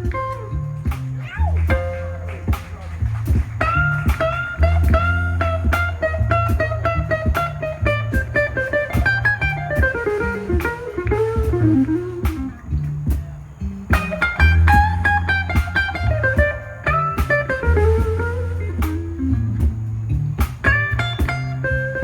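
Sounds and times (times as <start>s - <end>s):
lead guitar solo with bent notes: 0.0s - 2.6s, 3.2s - 19.8s, 20.6s - 22.0s
blues band playing: 0.0s - 22.0s
drums: 0.0s - 22.0s
walking bass line: 0.0s - 22.0s.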